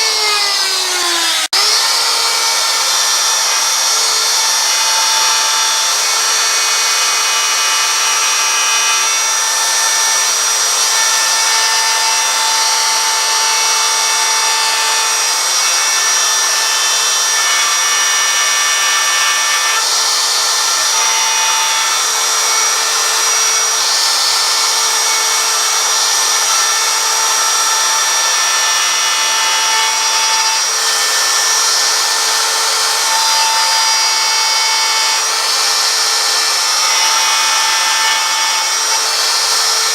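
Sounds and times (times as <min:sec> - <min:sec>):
router cutting into wood: 0:00.0 - 0:39.9.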